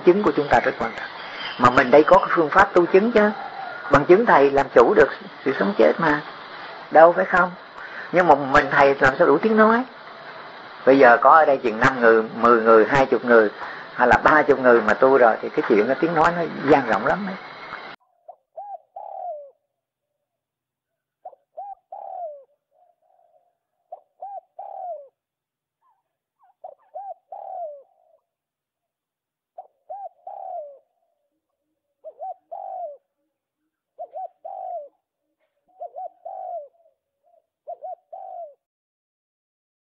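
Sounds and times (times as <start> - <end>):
dove cooing: 0.0 - 10.6, 11.6 - 19.7, 21.1 - 25.2, 25.8 - 28.4, 29.5 - 38.7.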